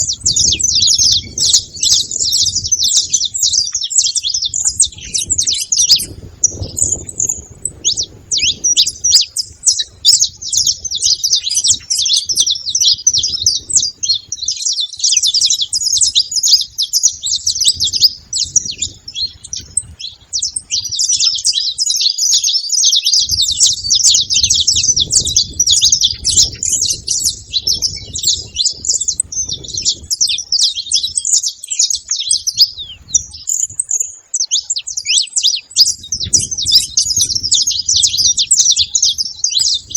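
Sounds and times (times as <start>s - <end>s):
finches chirping and trilling: 0.0s - 39.9s.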